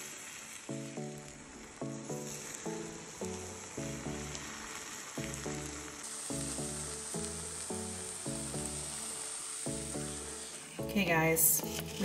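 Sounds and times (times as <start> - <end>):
eggs sizzling in a frying pan: 0.0 - 12.0.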